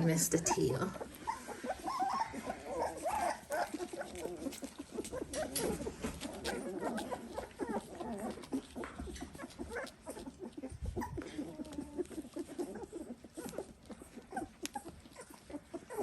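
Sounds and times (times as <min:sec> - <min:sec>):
puppies squeaking and grunting: 0:00.0 - 0:16.0.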